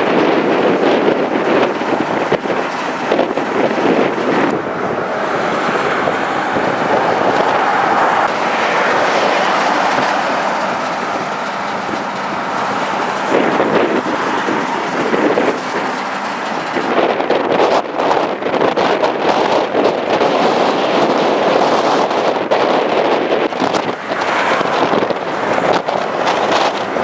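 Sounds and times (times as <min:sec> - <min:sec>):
motorway traffic rushing: 0:00.0 - 0:27.0.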